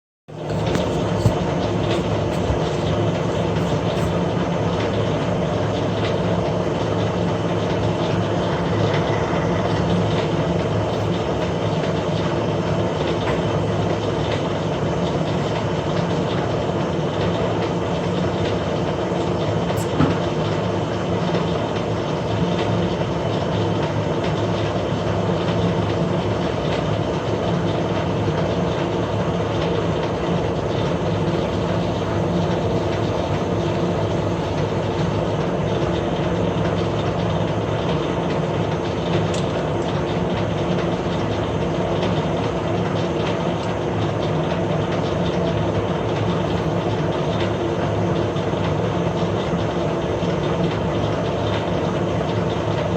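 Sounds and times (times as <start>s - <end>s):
metal lathe running: 0.3s - 52.9s.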